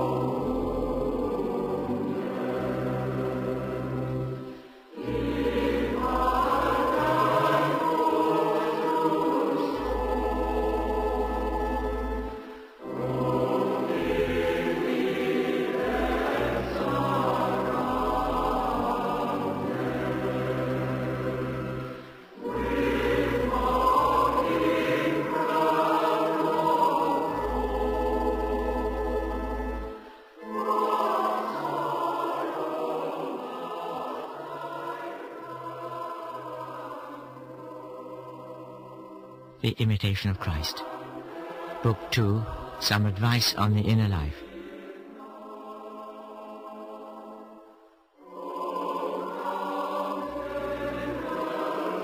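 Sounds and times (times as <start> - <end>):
choir singing sustained chords: 0.0 - 52.0.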